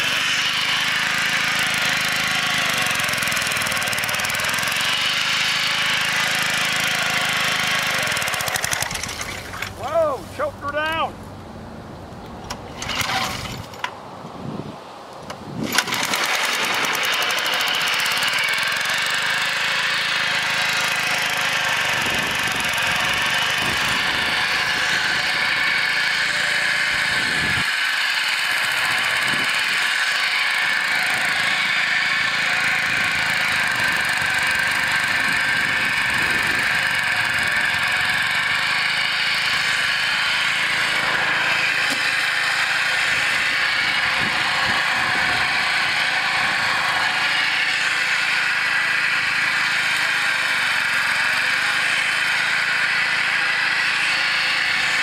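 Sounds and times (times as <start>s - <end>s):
flail mower running: 0.0s - 14.0s, 15.3s - 55.0s.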